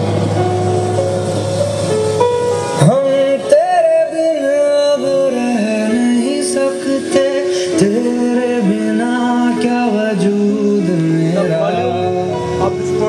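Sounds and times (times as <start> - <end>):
slow song through speaker: 0.0 - 13.0.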